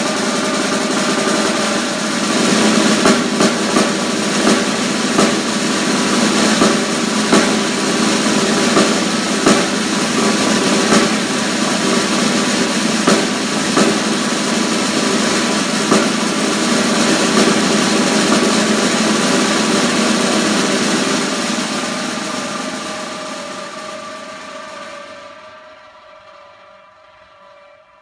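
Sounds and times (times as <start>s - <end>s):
snare drum roll: 0.0s - 26.0s.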